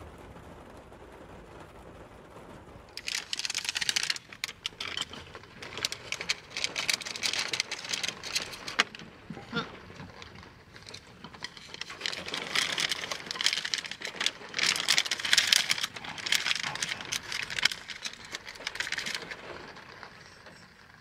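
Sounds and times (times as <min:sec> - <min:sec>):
plastic packet crinkling: 0:02.9 - 0:21.0
pods rattling into wooden bowl: 0:02.9 - 0:21.0.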